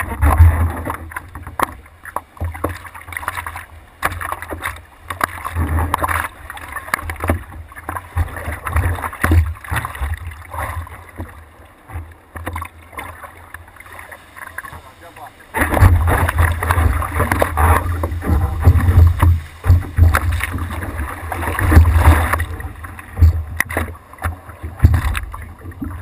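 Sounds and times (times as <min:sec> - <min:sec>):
low rumble of water: 0:00.0 - 0:26.0
water slapping against surfboard: 0:00.0 - 0:26.0.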